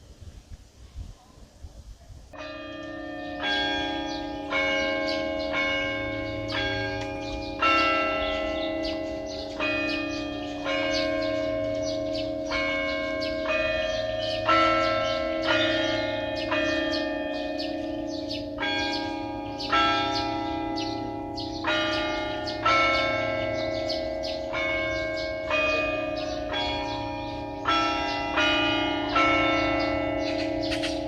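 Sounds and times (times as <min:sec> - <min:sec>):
church bells ringing: 0:02.3 - 0:31.0.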